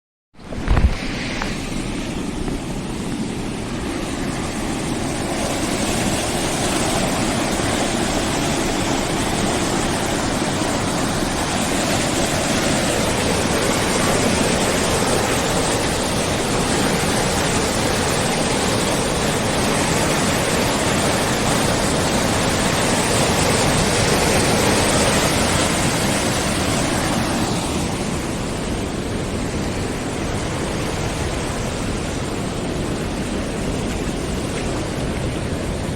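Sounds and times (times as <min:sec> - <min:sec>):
floodwater rushing in a river: 0:00.4 - 0:35.9.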